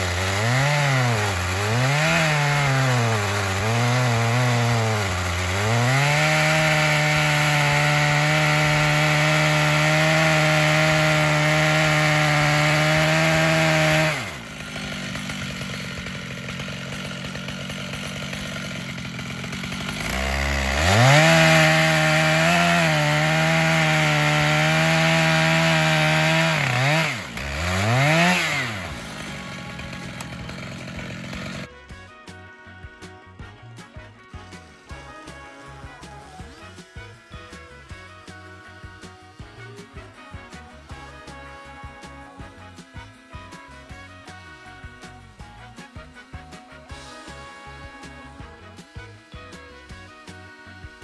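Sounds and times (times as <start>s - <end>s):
chainsaw idling: 0.0s - 32.8s, 33.6s - 51.0s
chainsaw cutting log: 0.0s - 51.0s.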